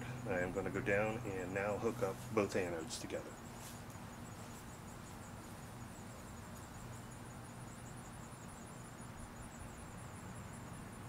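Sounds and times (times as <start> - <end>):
insects chirping: 0.0 - 11.0
steady low hum: 0.0 - 11.0.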